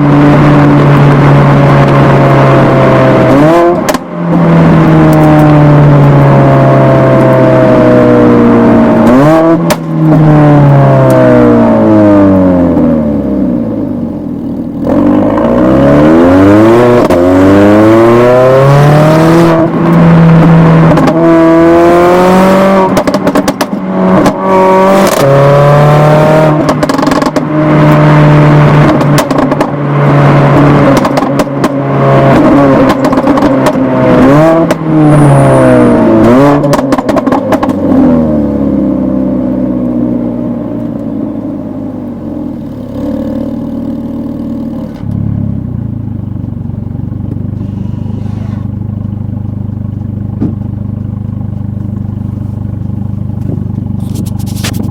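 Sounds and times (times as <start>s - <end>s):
exhaust crackles and pops: 0.0s - 7.4s, 8.6s - 11.9s, 18.6s - 35.1s, 36.0s - 44.0s, 44.7s - 54.9s
car engine revving: 0.0s - 54.9s.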